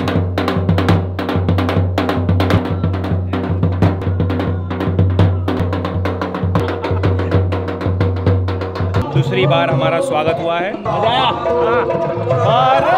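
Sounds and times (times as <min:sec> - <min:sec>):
drum-led dance music: 0:00.0 - 0:12.9.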